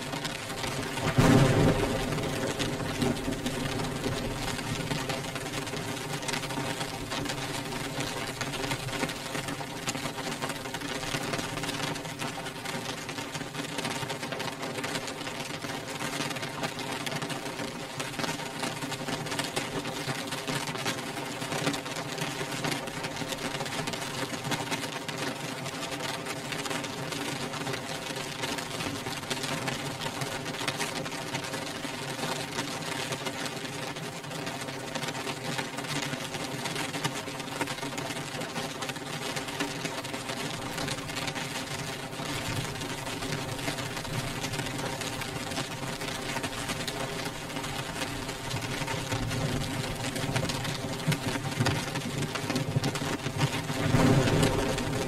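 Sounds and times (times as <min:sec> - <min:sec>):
rain on a windowpane: 0:00.0 - 0:55.0.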